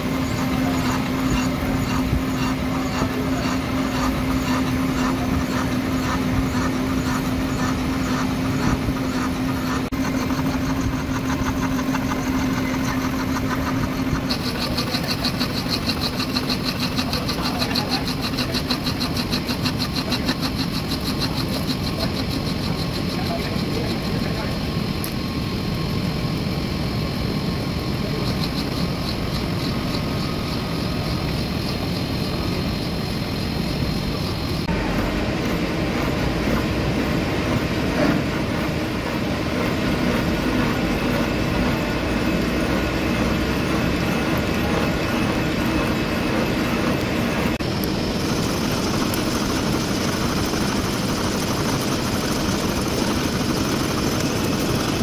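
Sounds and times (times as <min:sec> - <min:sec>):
milling machine cutting metal: 0:00.0 - 0:25.2, 0:27.8 - 0:55.0.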